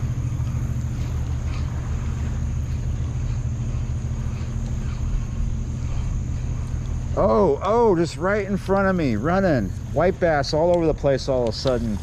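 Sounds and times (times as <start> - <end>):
towboat diesel engine drone: 0.0 - 12.0.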